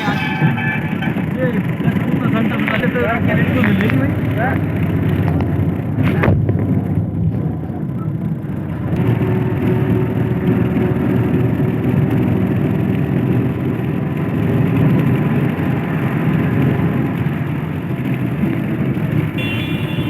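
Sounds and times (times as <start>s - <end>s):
moving vehicle rumble: 0.0s - 20.0s.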